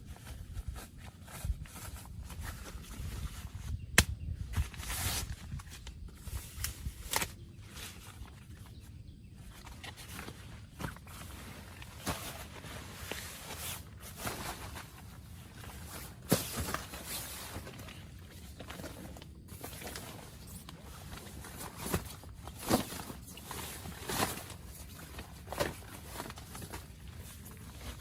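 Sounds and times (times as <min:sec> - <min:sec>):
wind hissing around a tent: 0:00.0 - 0:28.0.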